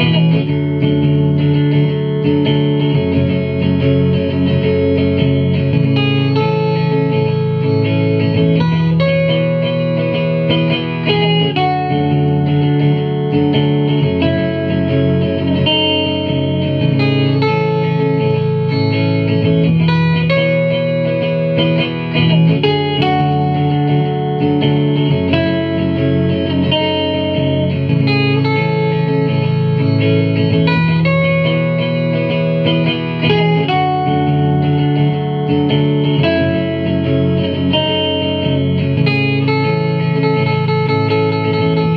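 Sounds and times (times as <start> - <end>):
guitar chords through effects: 0.0 - 41.9.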